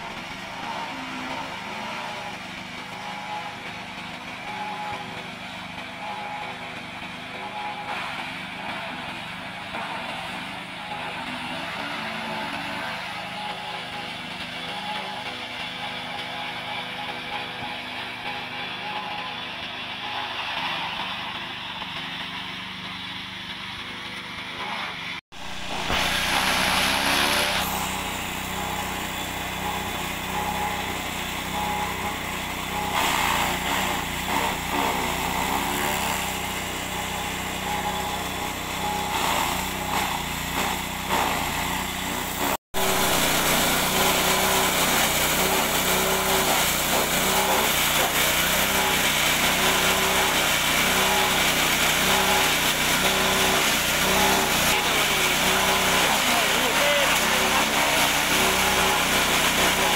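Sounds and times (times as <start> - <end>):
small petrol engine running: 0.0 - 59.9.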